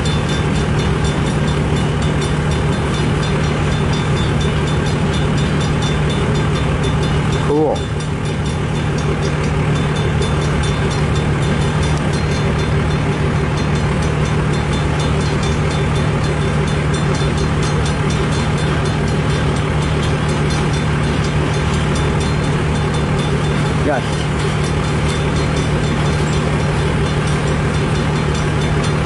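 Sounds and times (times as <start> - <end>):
constant low hum: 0.0 - 29.0
train wheels rumbling on rail: 0.0 - 29.0.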